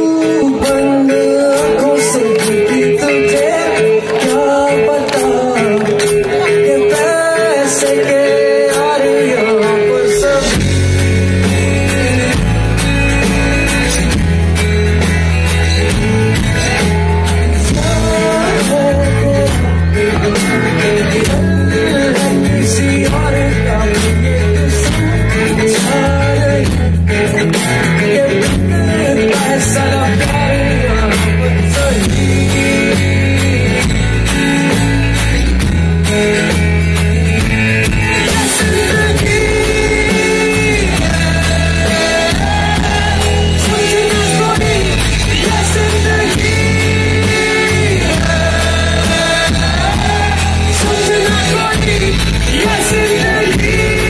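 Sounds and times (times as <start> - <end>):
rock band playing loud: 0.0 - 54.0.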